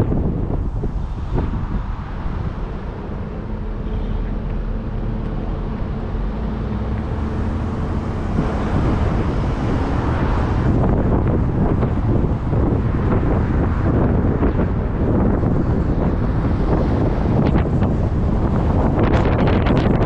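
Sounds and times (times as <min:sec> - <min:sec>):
traffic rumble: 0:00.0 - 0:20.0
wind buffeting the microphone: 0:00.0 - 0:20.0.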